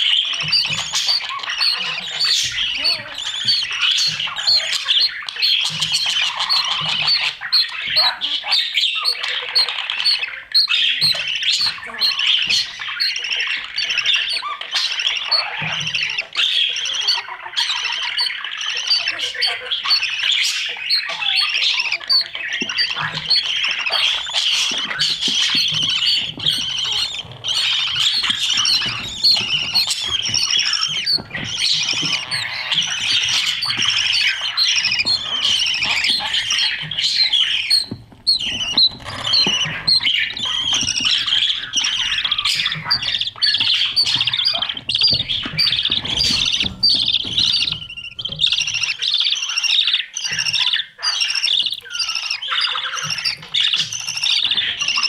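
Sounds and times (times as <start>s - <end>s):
budgerigars squawking and chirping: 0.0s - 55.0s.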